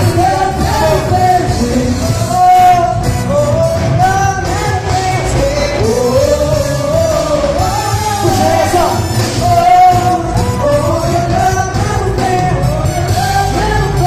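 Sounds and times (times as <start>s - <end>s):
band drums and bass: 0.0s - 14.0s
person singing: 0.0s - 14.0s.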